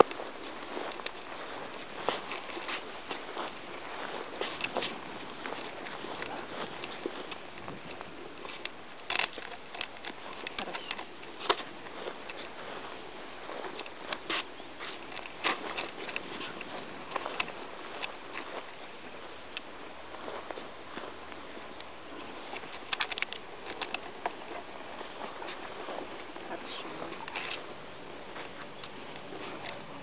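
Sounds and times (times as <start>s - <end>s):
crackles and clicks: 0.0s - 30.0s
rustling of tall grass: 0.0s - 30.0s.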